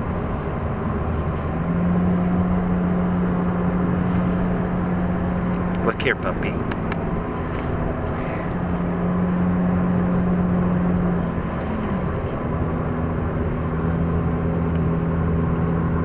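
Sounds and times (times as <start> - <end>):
car engine and road hum: 0.0 - 16.0.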